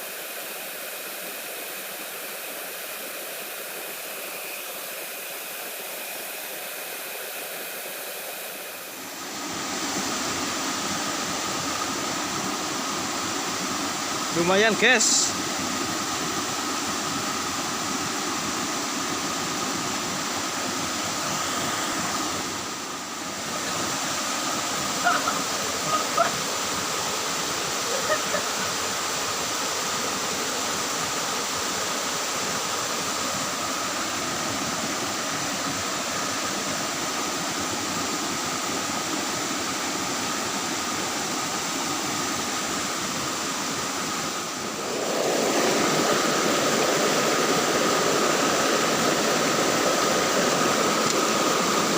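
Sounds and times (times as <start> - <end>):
flowing water rushing: 0.0 - 51.9.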